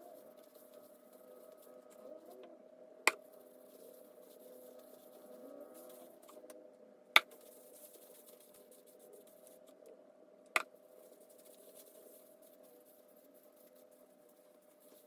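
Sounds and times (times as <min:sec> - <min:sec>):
soft rustling: 0:00.0 - 0:02.5, 0:03.2 - 0:06.5, 0:07.3 - 0:09.8, 0:10.8 - 0:15.0
faint steady hum: 0:00.0 - 0:15.0.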